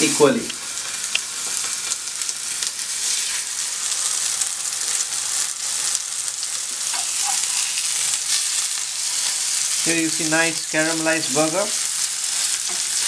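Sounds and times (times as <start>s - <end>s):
patties sizzling in frying pan: 0.0s - 13.0s.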